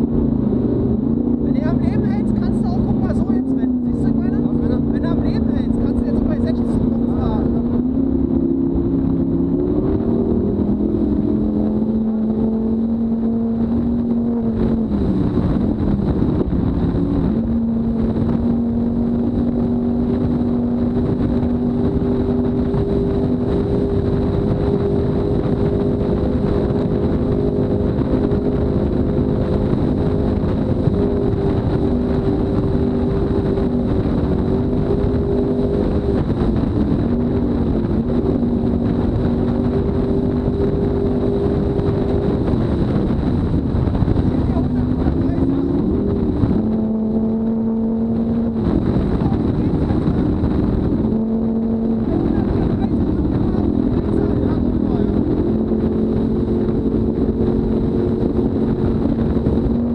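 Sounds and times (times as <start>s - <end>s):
outboard engine running hard: 0.0s - 59.9s.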